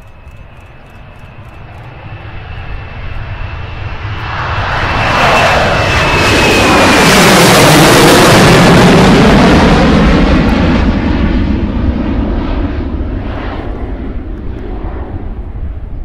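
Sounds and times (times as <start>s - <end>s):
jet engines crackling roar: 0.0s - 16.0s.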